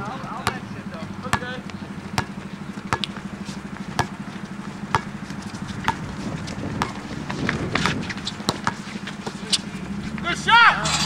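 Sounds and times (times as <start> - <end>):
basketball bouncing: 0.0 - 9.6
steady low hum: 0.0 - 11.0.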